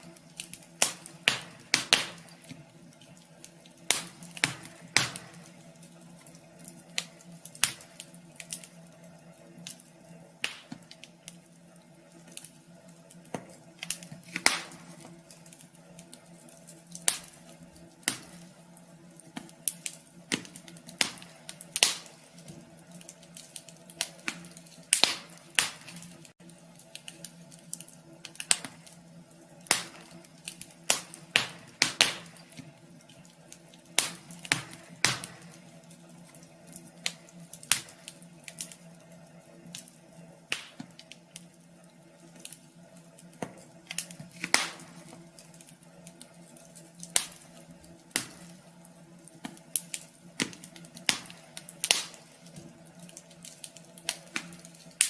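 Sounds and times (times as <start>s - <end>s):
steady low hum: 0.0s - 55.0s
wood fire crackling and popping: 0.0s - 55.0s.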